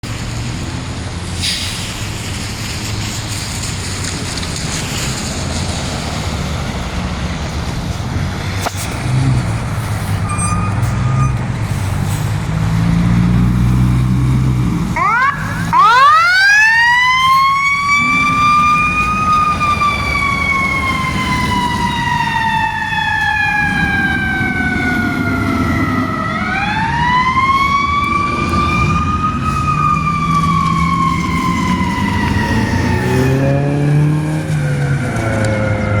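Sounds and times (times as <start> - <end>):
truck engine rumbling: 0.0 - 36.0
fire engine siren wailing: 2.2 - 36.0.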